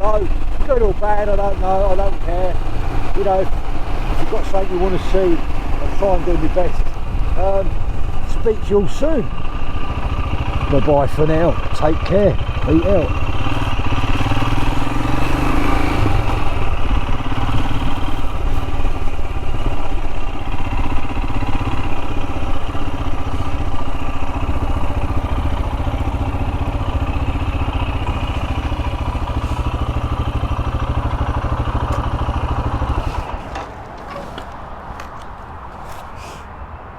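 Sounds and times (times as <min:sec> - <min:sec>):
motorcycle engine running: 0:00.0 - 0:35.4.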